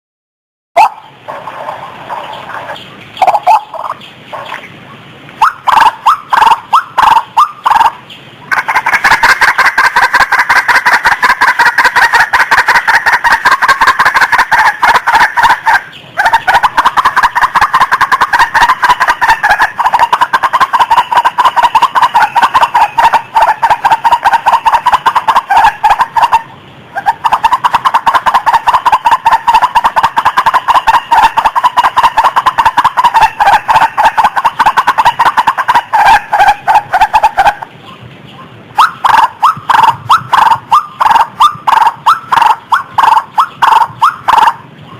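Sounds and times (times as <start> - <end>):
waterhen calls: 0.8 - 44.9.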